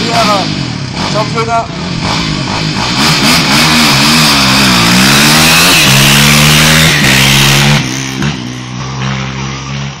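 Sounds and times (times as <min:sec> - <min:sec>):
quad engine at full throttle: 0:00.0 - 0:10.0.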